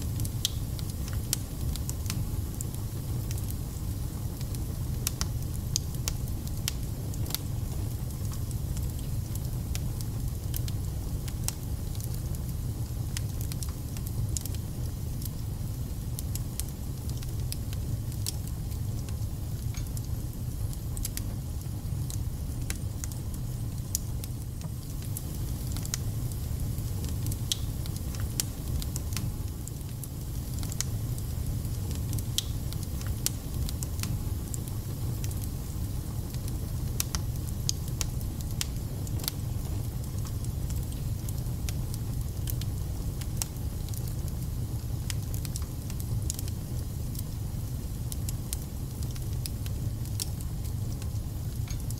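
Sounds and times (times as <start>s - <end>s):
fire crackling and spitting: 0.0s - 51.9s
fire rumbling: 0.0s - 51.9s.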